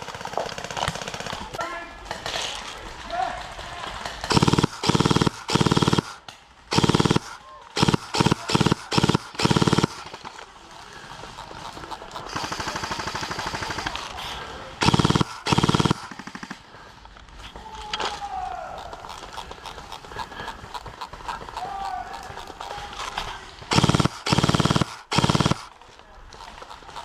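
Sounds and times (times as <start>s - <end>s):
airsoft guns firing full-auto: 0.0s - 17.0s, 19.1s - 27.0s.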